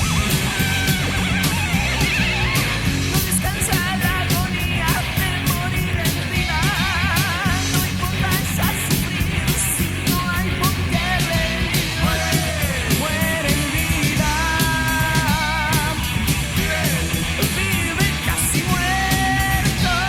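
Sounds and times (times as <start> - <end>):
heavy metal band playing: 0.0 - 20.0
lead guitar with bent notes: 0.0 - 20.0.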